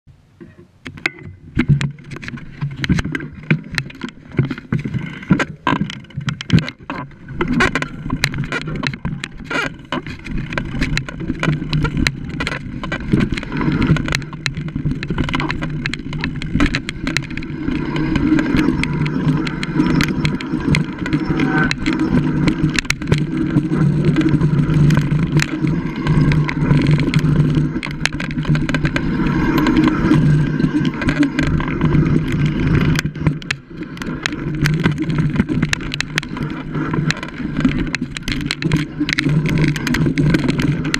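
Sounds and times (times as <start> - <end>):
wind: 0.0 - 40.9
bike rattling over bumps: 0.7 - 40.9.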